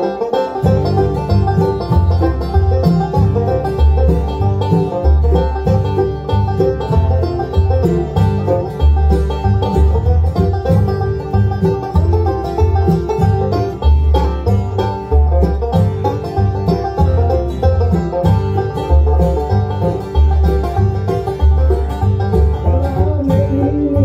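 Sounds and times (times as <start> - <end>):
acoustic guitar: 0.0 - 24.0
banjo: 0.0 - 24.0
mandolin: 0.0 - 24.0
upright bass: 0.0 - 24.0.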